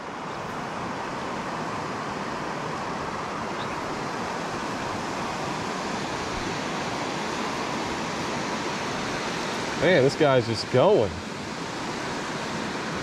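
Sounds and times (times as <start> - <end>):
river water rushing over falls: 0.0 - 13.0.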